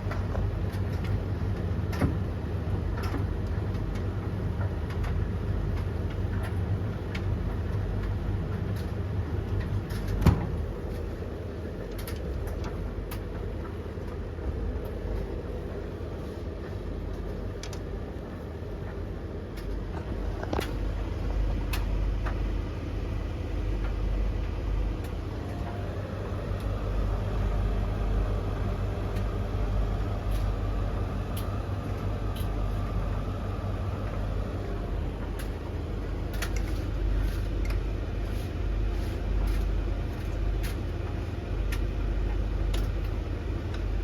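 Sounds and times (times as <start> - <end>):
tumble dryer drum rumble: 0.0 - 44.0.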